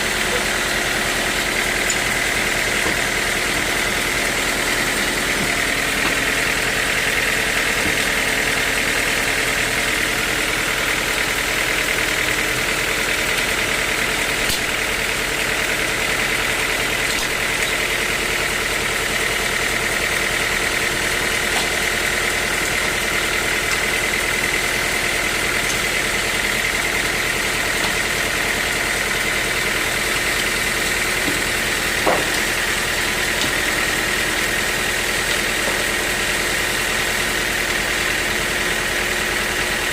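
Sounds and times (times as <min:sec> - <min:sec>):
sawmill engine hum: 0:00.0 - 0:39.9.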